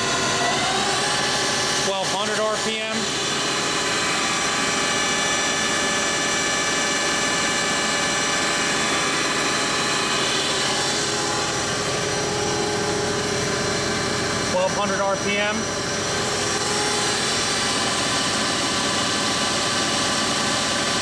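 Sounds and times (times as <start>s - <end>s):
boring mill spindle whirring: 0.0s - 21.0s.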